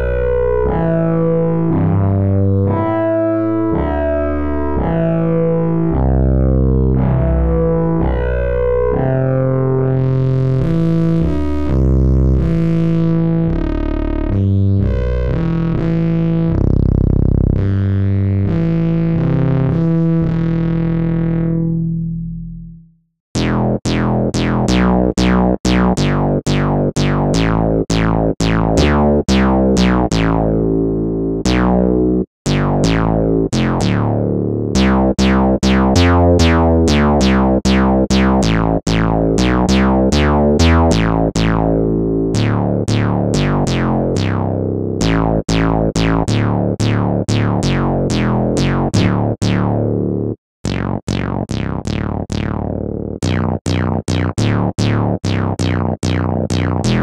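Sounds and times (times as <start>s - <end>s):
synthesizer plucked notes: 0.0s - 16.8s, 23.4s - 57.0s
low bass notes: 0.0s - 57.0s.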